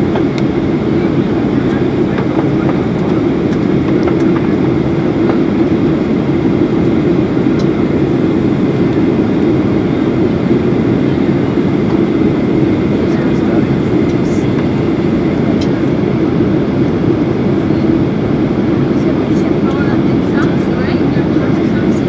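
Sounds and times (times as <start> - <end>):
airflow rushing: 0.0 - 22.0
jet engines droning: 0.0 - 22.0.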